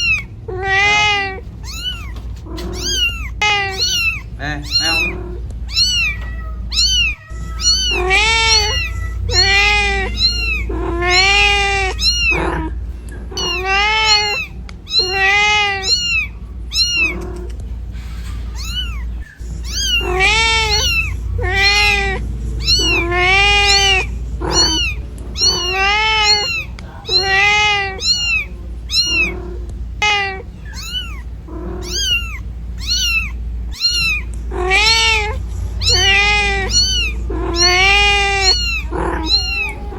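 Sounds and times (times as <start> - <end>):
cat meowing loudly: 0.0 - 17.5, 18.4 - 39.9
steady low rumble: 0.0 - 39.9.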